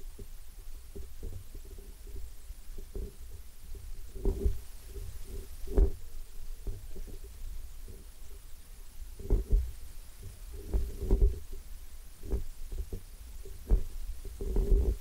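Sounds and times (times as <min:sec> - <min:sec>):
faint steady tone: 0:00.0 - 0:15.0.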